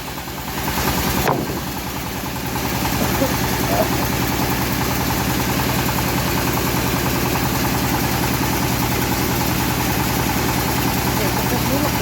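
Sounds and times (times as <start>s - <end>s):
bandsaw mill engine running: 0.0s - 12.0s.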